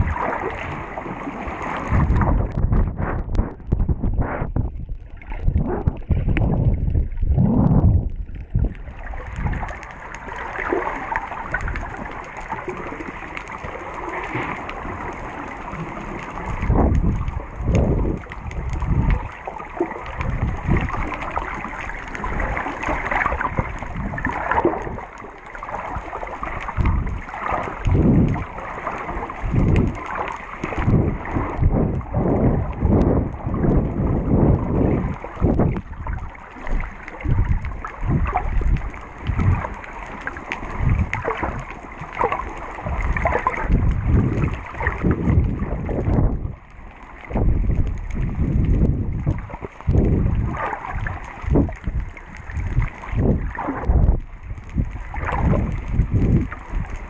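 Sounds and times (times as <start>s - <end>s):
muffled underwater water noise: 0.0s - 57.0s.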